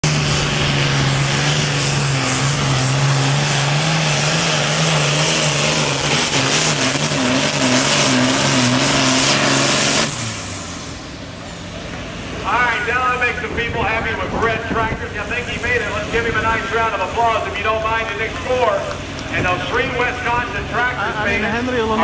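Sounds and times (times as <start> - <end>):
tractor engine under heavy load: 0.0 - 22.0.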